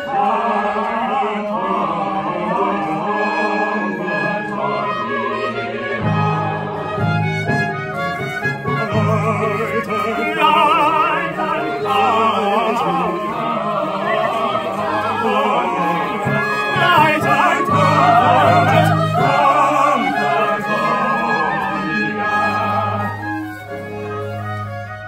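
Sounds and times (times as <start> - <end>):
operatic singing voices: 0.0 - 23.9
orchestral accompaniment: 0.0 - 25.0.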